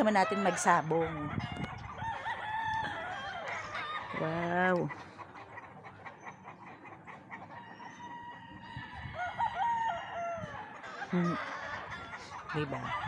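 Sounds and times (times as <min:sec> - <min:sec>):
roosters crowing: 0:00.0 - 0:05.7, 0:06.4 - 0:13.0.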